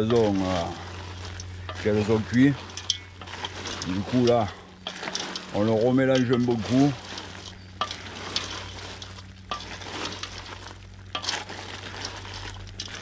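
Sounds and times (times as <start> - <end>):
cooking liquid sizzling: 0.0 - 13.0
shells rustling and clattering: 0.0 - 13.0.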